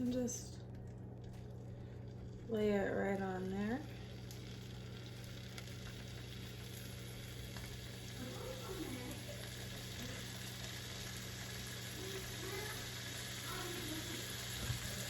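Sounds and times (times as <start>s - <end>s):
meat sizzling in butter: 1.9s - 15.0s.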